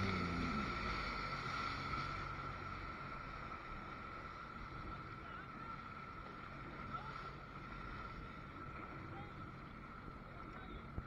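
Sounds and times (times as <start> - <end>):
jet ski engines whining: 0.0 - 11.0
water washing around hulls: 0.0 - 11.0.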